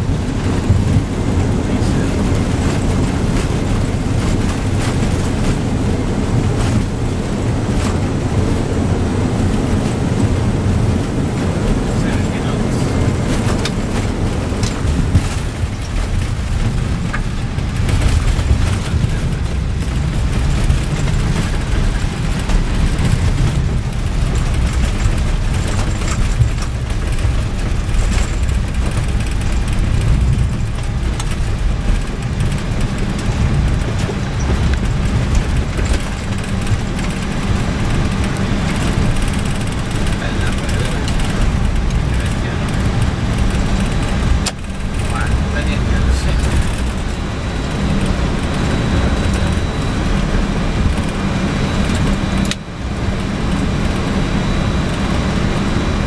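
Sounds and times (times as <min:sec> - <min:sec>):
airliner engine and wheel rumble: 0:00.0 - 0:56.0.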